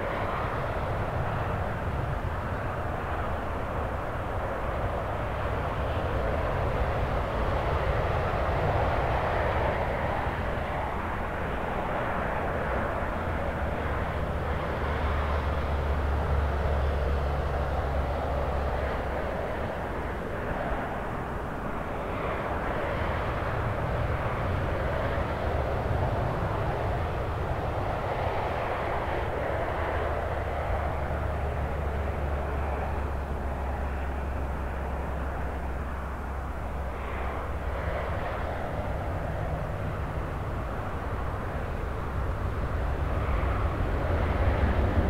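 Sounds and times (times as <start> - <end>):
jet engines of landing airliner: 0.0 - 45.0.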